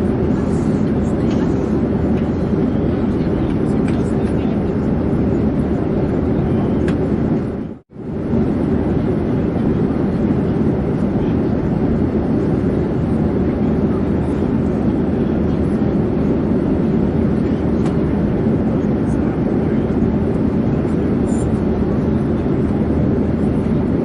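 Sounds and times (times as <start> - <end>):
airplane engine drone: 0.0 - 24.0.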